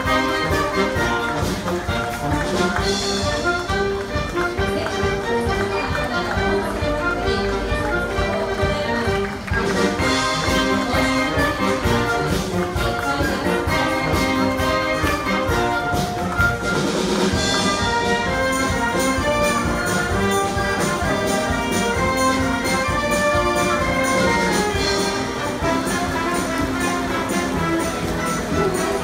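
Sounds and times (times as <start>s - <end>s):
brass band playing: 0.0s - 29.0s
drum beat: 0.0s - 29.0s.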